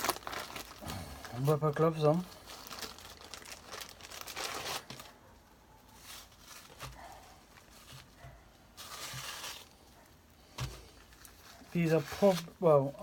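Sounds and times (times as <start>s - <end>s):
rubber gloves rustling: 0.0s - 13.0s.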